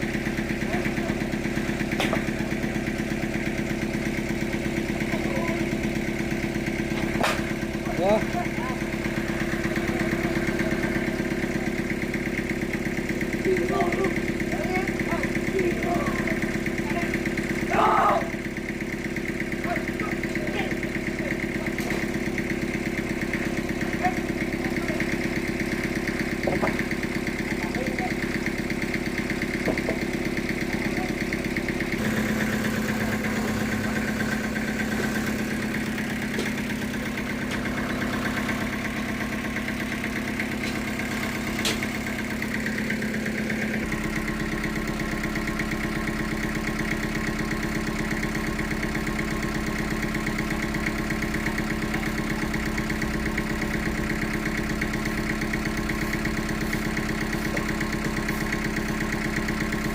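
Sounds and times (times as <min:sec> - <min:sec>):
sawmill machinery engine running: 0:00.0 - 0:59.9.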